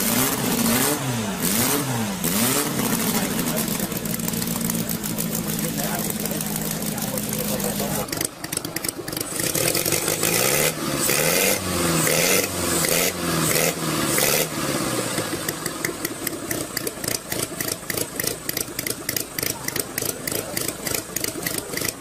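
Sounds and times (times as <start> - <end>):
model engine revving and idling: 0.0 - 22.0.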